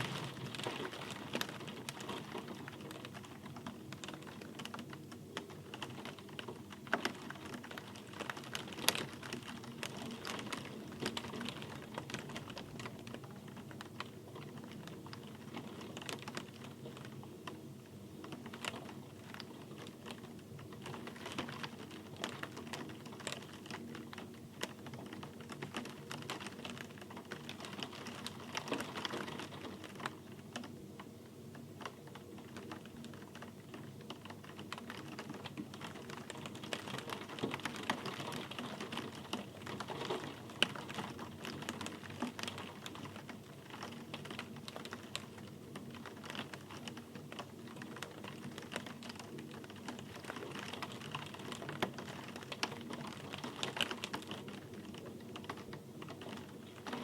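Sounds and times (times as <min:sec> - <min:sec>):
rain pattering: 0:00.0 - 0:57.0
soft rain hiss: 0:00.0 - 0:57.0.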